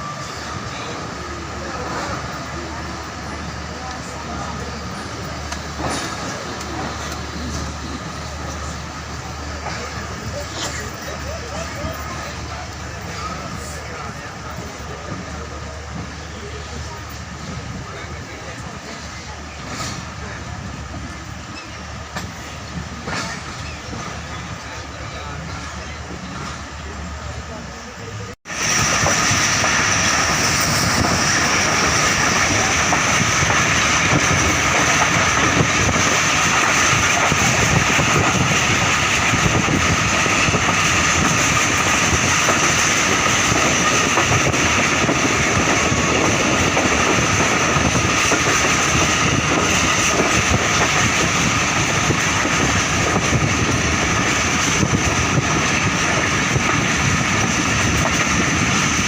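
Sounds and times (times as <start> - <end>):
train rumbling at speed: 0.0 - 59.0.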